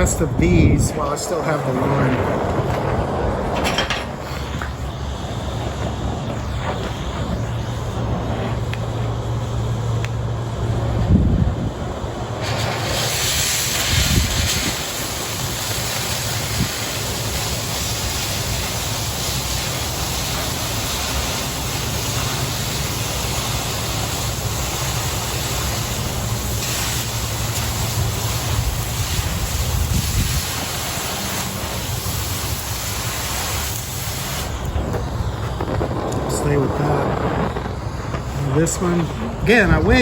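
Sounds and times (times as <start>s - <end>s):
cutting torch hissing: 0.0s - 40.0s.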